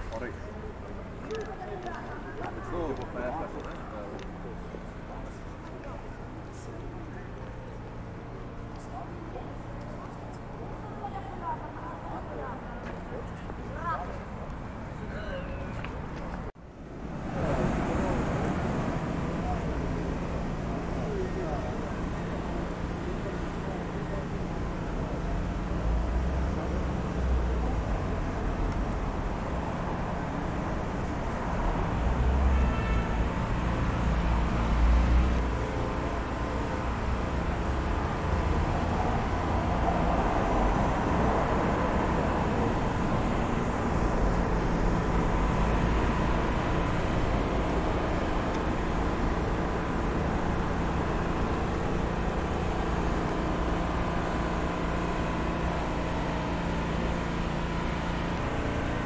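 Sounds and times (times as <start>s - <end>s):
low rumble of passing vehicles: 0.0s - 59.0s
passing cars: 0.0s - 59.0s.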